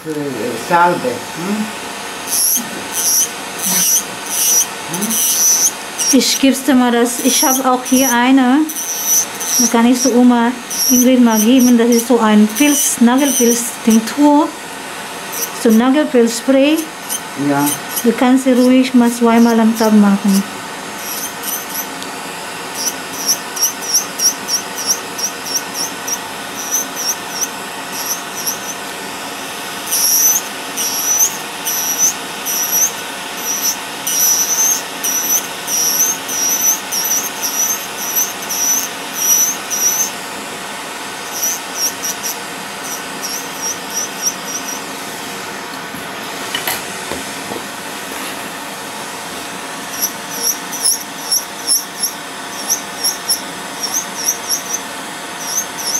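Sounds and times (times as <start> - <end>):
nail drill motor running: 0.0 - 46.2, 48.4 - 55.9
drill burr squeaking on nail: 2.2 - 14.5, 15.1 - 20.1, 20.8 - 40.2, 41.1 - 44.9, 49.8 - 55.9.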